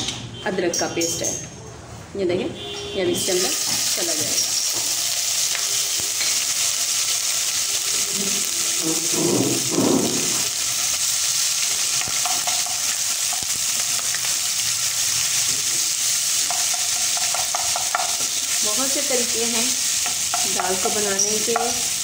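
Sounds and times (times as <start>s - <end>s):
paste sizzling in hot oil: 3.2s - 22.0s.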